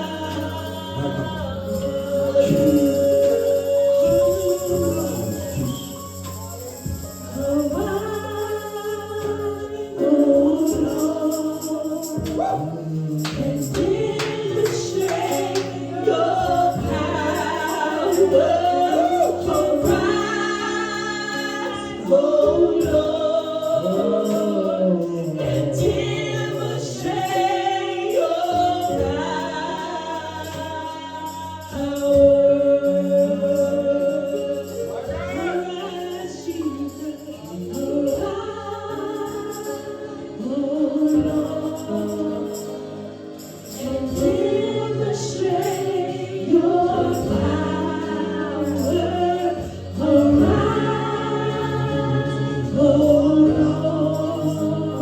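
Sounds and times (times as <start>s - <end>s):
gospel worship singing: 0.0s - 55.0s.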